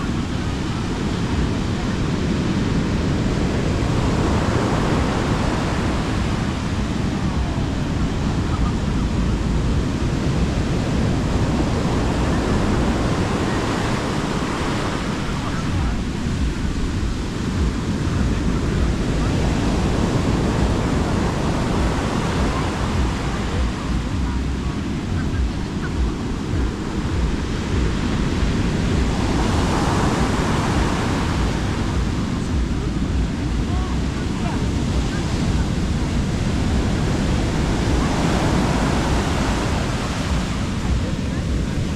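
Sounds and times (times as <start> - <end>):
sea surf washing onto beach: 0.0 - 41.9
wind rumble on microphone: 0.0 - 41.9.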